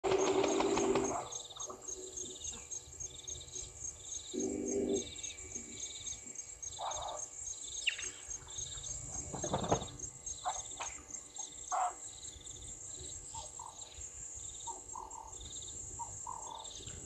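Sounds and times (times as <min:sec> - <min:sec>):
insects chirping: 0:00.0 - 0:17.0
soft insect trill: 0:00.1 - 0:17.0.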